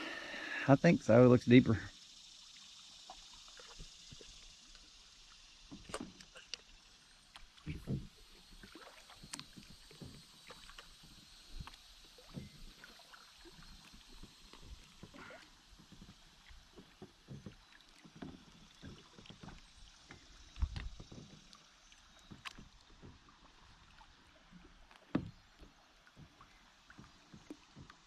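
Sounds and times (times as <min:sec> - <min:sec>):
paddle splashes: 0:02.6 - 0:28.0.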